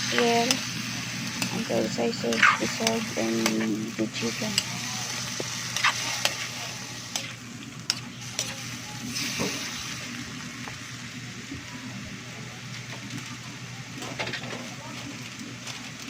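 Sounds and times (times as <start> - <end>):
chicken sizzling in a pot: 0.0 - 16.0.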